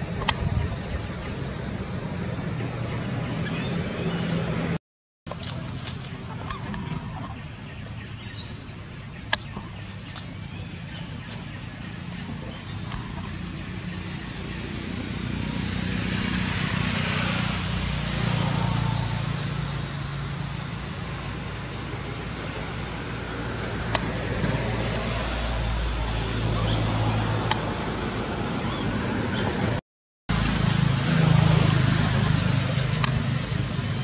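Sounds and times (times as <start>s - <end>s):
traffic engines droning: 0.0s - 34.0s.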